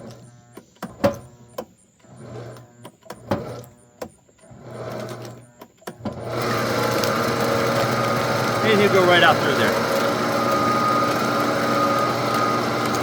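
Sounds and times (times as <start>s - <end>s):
electric meat grinder motor: 0.0s - 13.0s.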